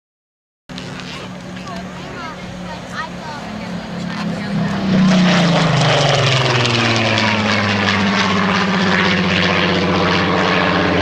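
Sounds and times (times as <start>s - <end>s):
aircraft engine droning: 0.7s - 11.0s.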